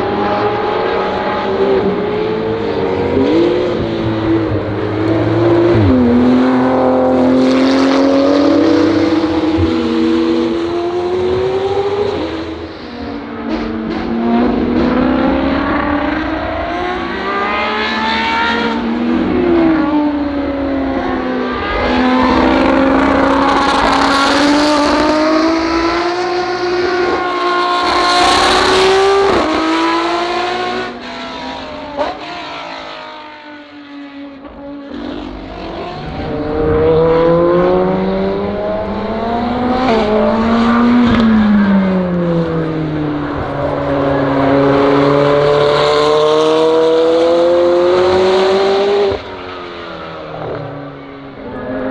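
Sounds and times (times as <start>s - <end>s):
race car engines accelerating and braking: 0.0s - 51.9s.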